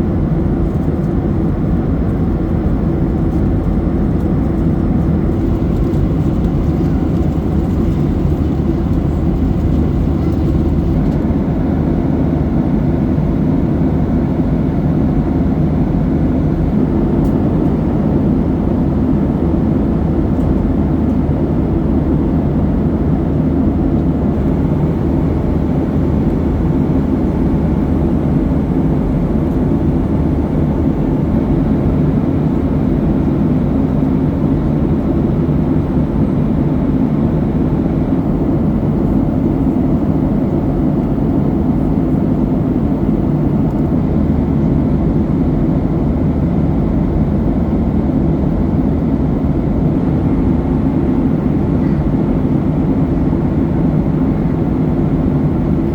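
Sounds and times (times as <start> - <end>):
airplane cabin airflow and engine hum: 0.0 - 55.9.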